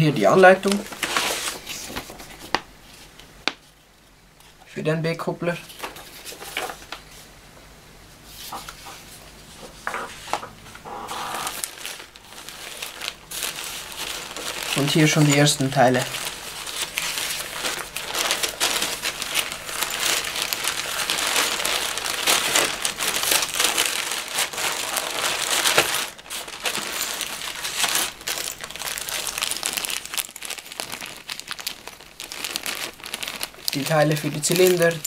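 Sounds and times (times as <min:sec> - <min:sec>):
paper crumpling and rustling: 0:00.3 - 0:03.1, 0:05.6 - 0:07.3, 0:08.3 - 0:35.0.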